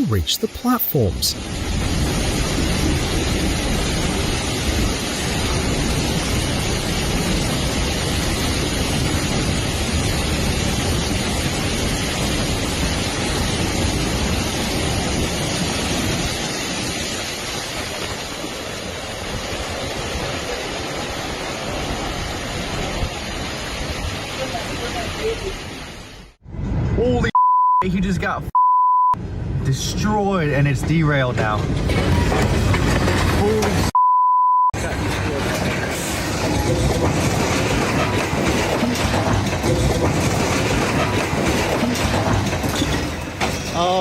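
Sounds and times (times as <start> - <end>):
rushing water in heavy downpour: 0.0 - 26.4, 29.9 - 34.0, 34.8 - 44.0.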